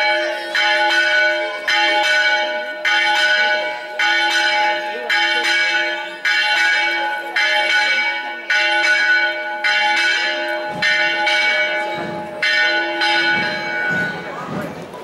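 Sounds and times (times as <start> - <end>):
church bell ringing: 0.0 - 14.6.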